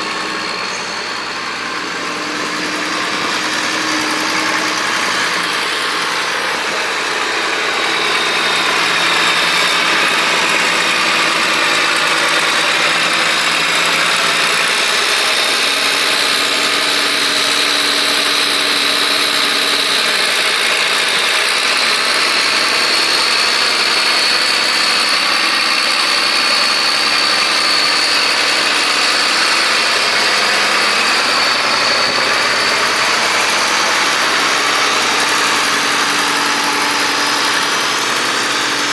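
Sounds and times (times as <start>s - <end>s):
high turbo whine: 0.0s - 38.9s
tractor diesel engine running: 0.0s - 38.9s.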